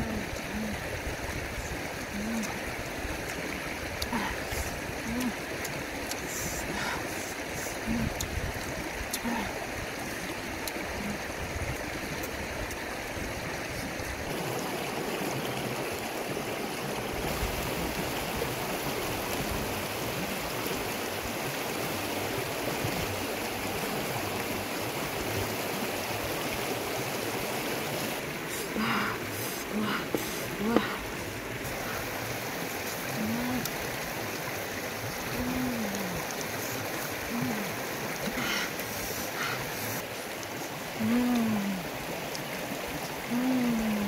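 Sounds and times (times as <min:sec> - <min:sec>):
river rushing over rocks: 0:00.0 - 0:41.1.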